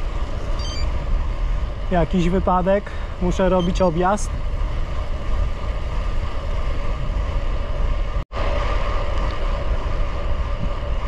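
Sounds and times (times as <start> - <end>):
bike tyres rolling on road: 0.0 - 11.0
wind on microphone: 0.0 - 11.0.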